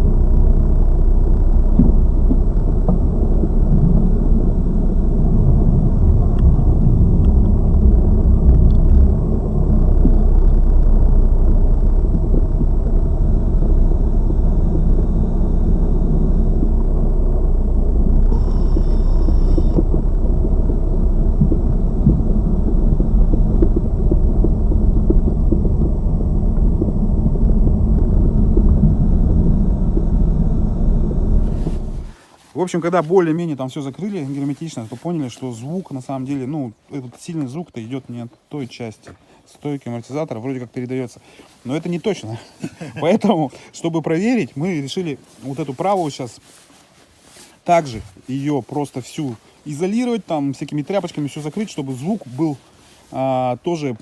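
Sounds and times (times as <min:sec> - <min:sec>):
road and suspension rumble: 0:00.0 - 0:54.0.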